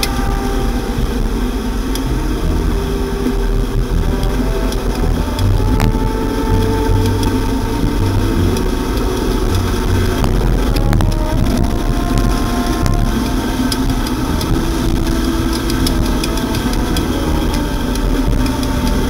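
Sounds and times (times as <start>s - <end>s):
motorcycle engine running: 0.0s - 19.0s
wind noise: 0.0s - 19.0s.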